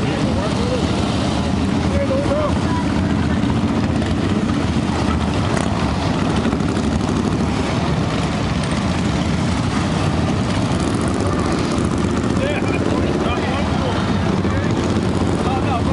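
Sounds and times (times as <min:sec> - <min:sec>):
motorcycle engines droning: 0:00.0 - 0:15.9.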